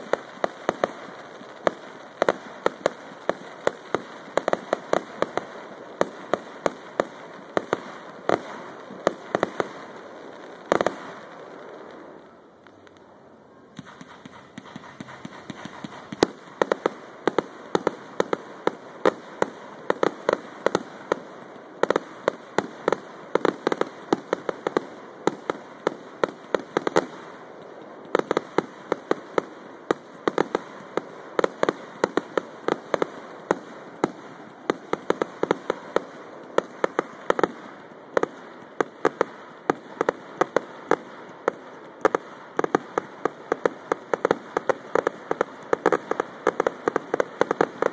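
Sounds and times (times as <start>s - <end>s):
fireworks popping and crackling: 0.0s - 13.1s, 13.8s - 47.9s
steady hiss: 0.0s - 47.9s.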